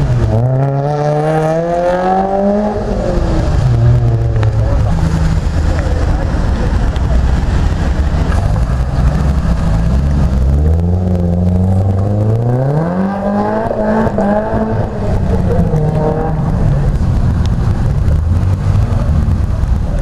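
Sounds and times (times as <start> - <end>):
car engine accelerating hard: 0.0 - 20.0
car engines rumbling: 0.0 - 20.0.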